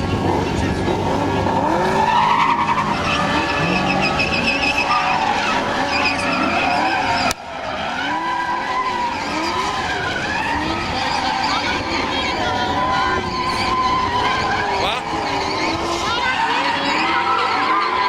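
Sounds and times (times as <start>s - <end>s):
car engine revving: 0.0s - 18.0s
tyres squealing: 1.5s - 18.0s.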